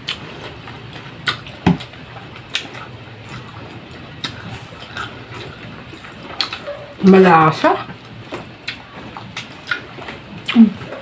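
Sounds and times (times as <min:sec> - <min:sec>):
chewing and mouth noises: 0:00.0 - 0:07.0, 0:07.8 - 0:11.0.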